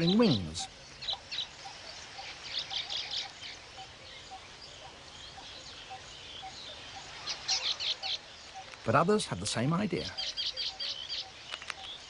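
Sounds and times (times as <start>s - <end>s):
weaver birds chirping: 0.0s - 12.0s.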